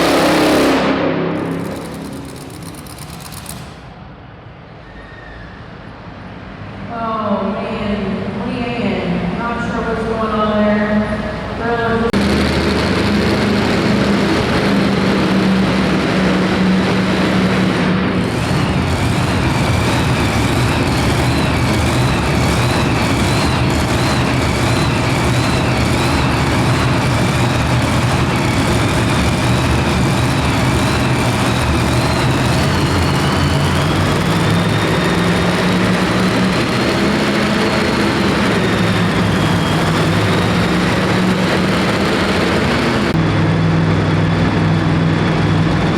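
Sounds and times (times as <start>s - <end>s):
truck engine running loud: 0.0s - 4.4s, 7.6s - 45.9s.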